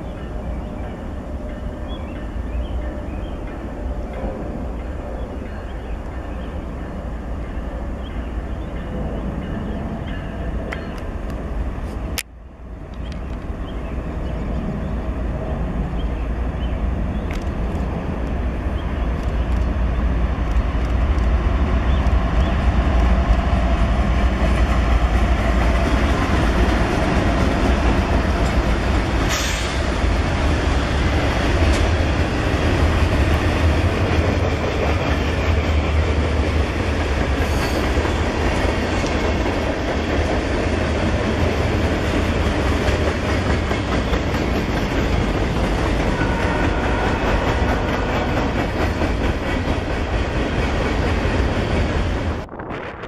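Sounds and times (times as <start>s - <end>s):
locomotive engines rumbling: 0.0s - 53.0s.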